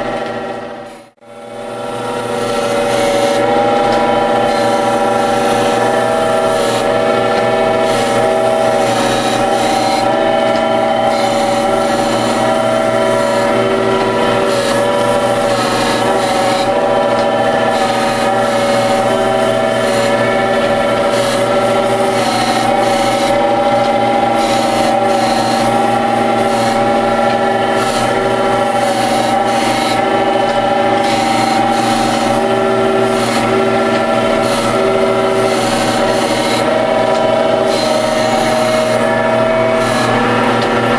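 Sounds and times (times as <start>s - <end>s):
grinding hiss: 0.0s - 40.9s
machine hum: 0.0s - 40.9s.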